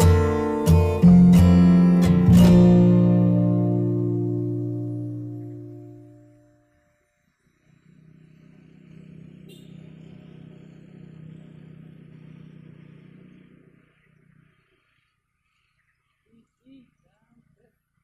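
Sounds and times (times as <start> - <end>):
motor vehicle passing: 0.0 - 6.4, 7.0 - 17.6.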